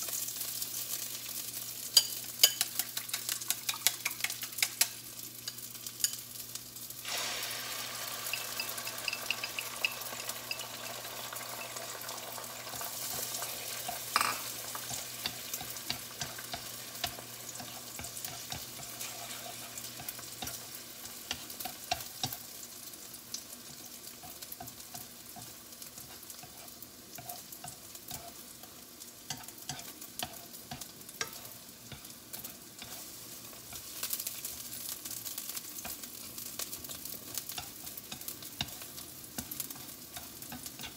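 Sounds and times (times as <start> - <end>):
food sizzling in a frying pan: 0.0 - 40.9
chopsticks tapping and scraping pan: 1.9 - 6.2, 8.3 - 11.0, 11.6 - 22.4, 23.7 - 34.7, 35.7 - 40.9.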